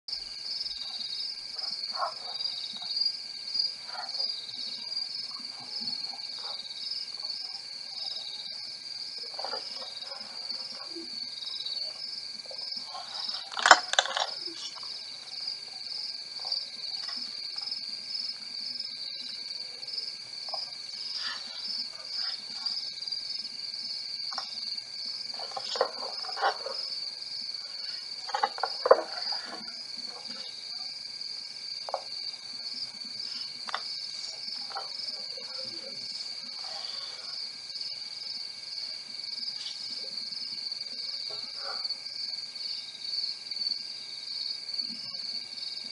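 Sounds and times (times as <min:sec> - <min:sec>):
crickets chirring: 0:00.1 - 0:45.9.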